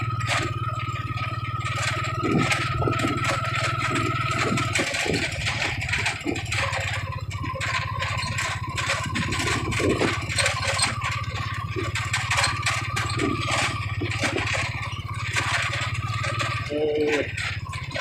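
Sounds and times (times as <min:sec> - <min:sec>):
rattling and clattering: 0:00.0 - 0:18.0
vehicle engine running: 0:00.0 - 0:18.0.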